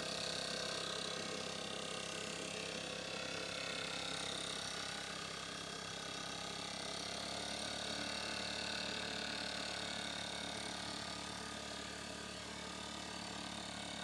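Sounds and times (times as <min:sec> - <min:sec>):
blower engine running: 0:00.0 - 0:14.0.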